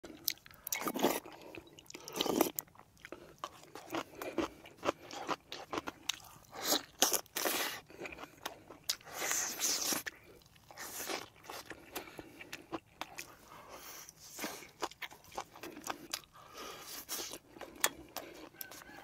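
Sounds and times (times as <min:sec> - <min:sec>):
man chewing food: 0:00.0 - 0:19.0.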